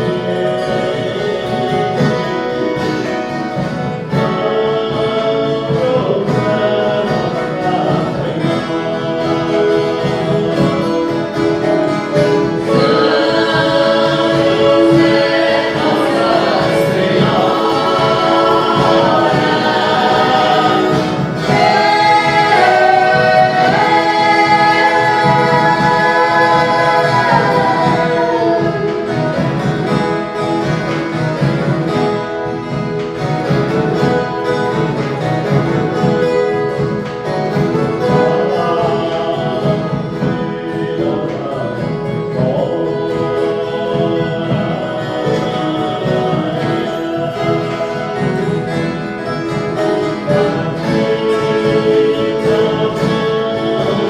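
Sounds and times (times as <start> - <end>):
group of voices singing: 0.0 - 54.0
guitar ensemble playing: 0.0 - 54.0.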